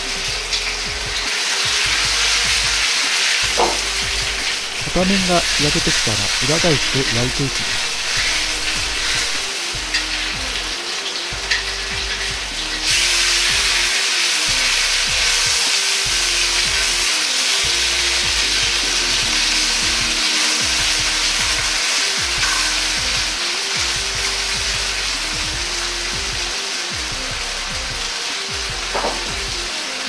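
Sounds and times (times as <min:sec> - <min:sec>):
meat sizzling in a wok: 0:00.0 - 0:30.0.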